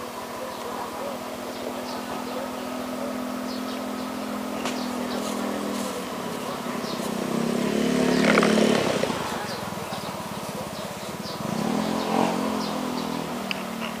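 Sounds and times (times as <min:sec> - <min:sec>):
motor scooter engine running: 0:00.0 - 0:14.0
motorcycle passing close by: 0:00.1 - 0:14.0.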